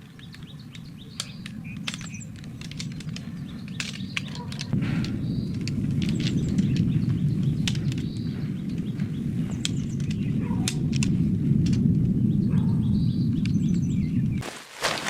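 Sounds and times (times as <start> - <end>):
small birds chirping: 0.0 - 14.4
steady low rumble: 0.0 - 14.4
sharp ticks: 0.1 - 12.7.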